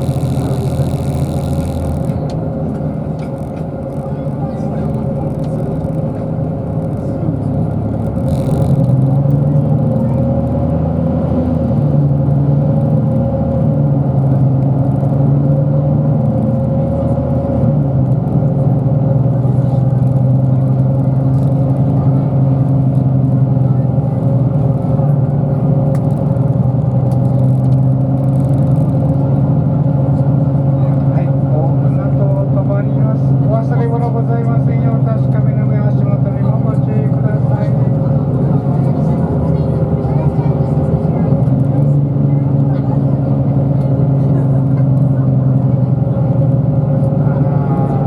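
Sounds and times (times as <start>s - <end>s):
bus engine drone: 0.0s - 48.0s.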